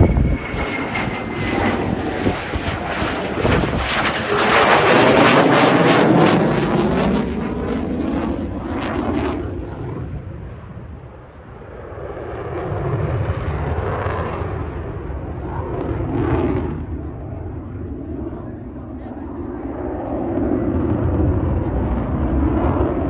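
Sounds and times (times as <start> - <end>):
fighter jet passing overhead: 0.0 - 23.0.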